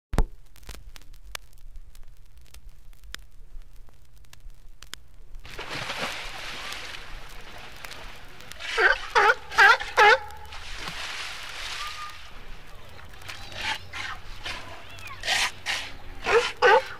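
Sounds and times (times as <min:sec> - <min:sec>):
vinyl record crackle and clicks: 0:00.1 - 0:16.7
low hum: 0:00.2 - 0:16.9.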